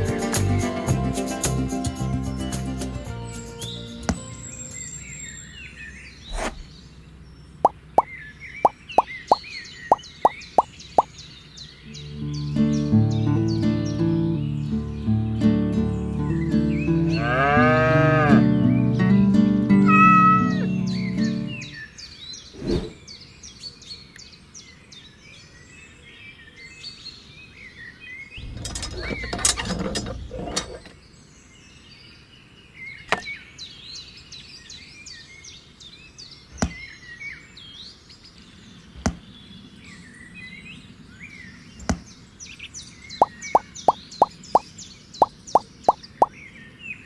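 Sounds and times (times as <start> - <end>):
birds chirping: 2.4 - 47.0.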